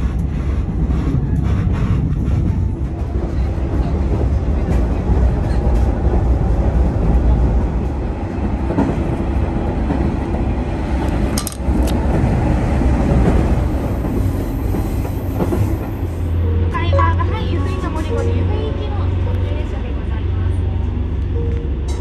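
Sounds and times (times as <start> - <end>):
diesel train rumbling: 0.0 - 22.0.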